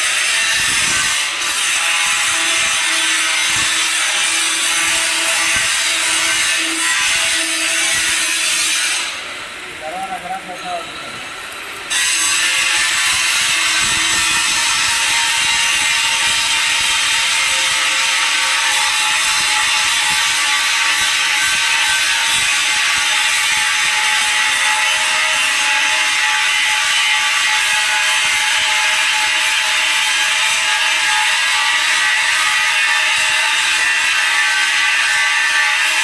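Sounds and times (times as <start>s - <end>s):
welding arc crackling and sizzling: 0.0s - 36.0s.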